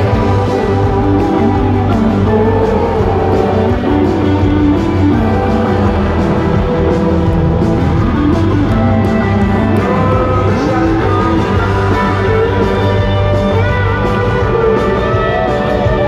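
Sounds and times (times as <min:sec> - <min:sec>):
guitar: 0:00.0 - 0:16.0
live country band playing: 0:00.0 - 0:16.0.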